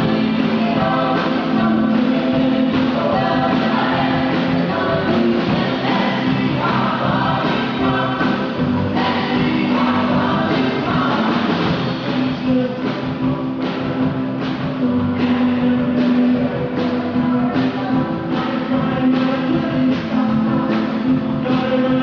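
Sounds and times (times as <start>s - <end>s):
live rock band playing: 0.0s - 22.0s
person singing: 0.0s - 22.0s
steady drum beat: 0.0s - 22.0s.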